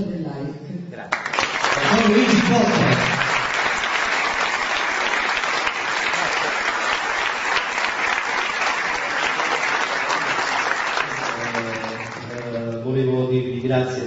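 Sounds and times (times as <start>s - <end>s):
crowd applause: 1.1s - 12.9s.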